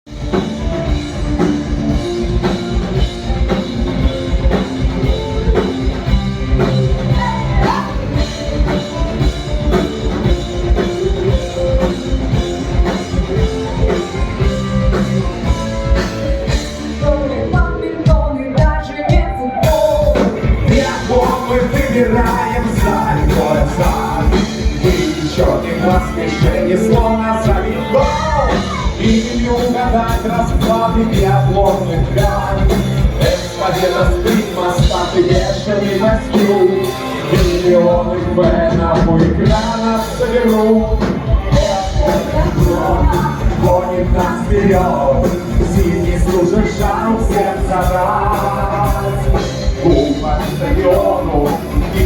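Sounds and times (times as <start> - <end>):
rock band playing: 0.0 - 52.0
steady drum beat: 0.0 - 52.0.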